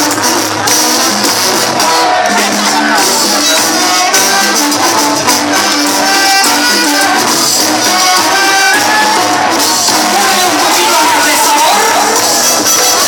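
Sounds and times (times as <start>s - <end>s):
band playing latin dance music: 0.0s - 13.0s.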